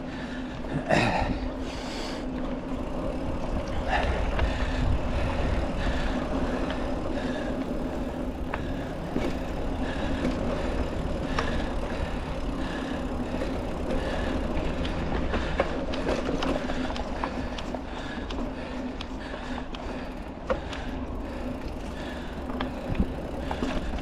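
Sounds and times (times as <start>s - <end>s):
bike rattling: 0.0s - 24.0s
knobby tyres rolling on dirt: 0.0s - 24.0s.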